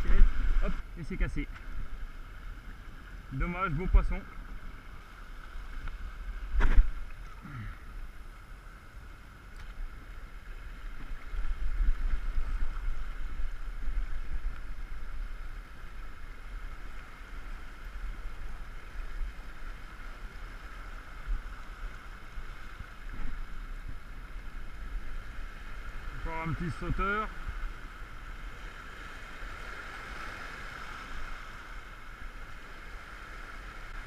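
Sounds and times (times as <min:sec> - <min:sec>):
sea water washing over rocks: 0:00.0 - 0:34.0
wind rumbling on microphone: 0:00.0 - 0:34.0.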